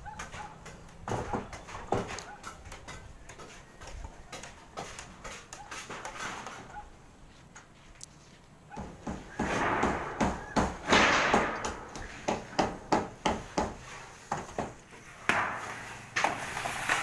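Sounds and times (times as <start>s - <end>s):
taps and knocks on metal roofing: 0.0s - 6.8s, 8.7s - 16.4s.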